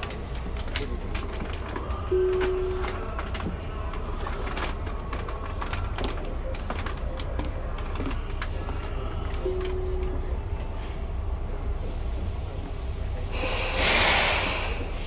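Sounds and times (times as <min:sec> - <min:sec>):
train low hum: 0:00.0 - 0:15.0.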